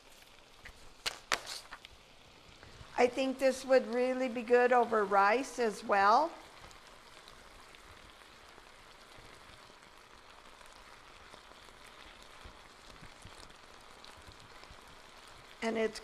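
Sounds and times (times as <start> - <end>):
stir fry sizzling and crackling: 0.0 - 16.0.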